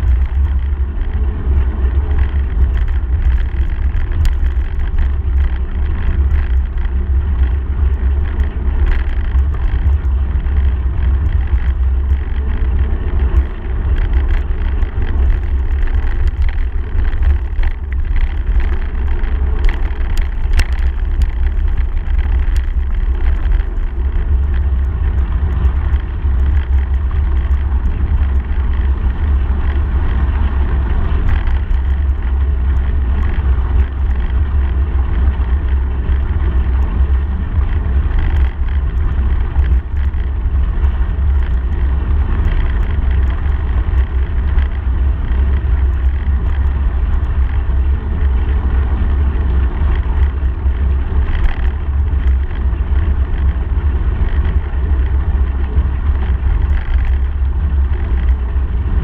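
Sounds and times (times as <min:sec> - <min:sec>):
bicycle tyres on gravel: 0:00.0 - 0:59.0
wind rumble on microphone: 0:00.0 - 0:59.0.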